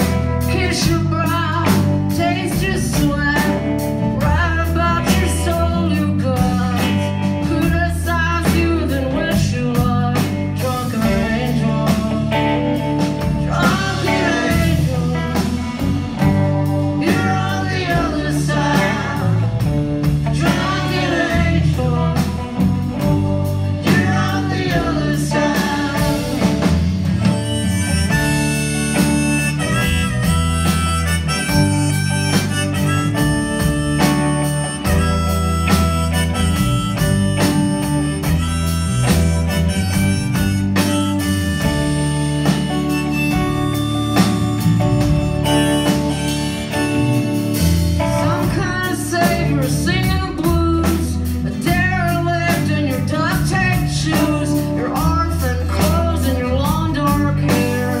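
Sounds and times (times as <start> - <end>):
live band playing country-rock: 0.0 - 58.0
sustained lead guitar line: 0.0 - 58.0.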